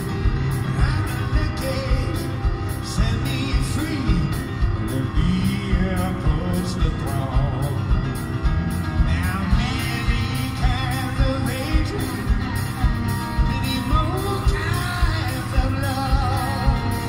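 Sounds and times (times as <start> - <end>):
blues band playing: 0.0 - 17.0
man singing: 0.0 - 17.0.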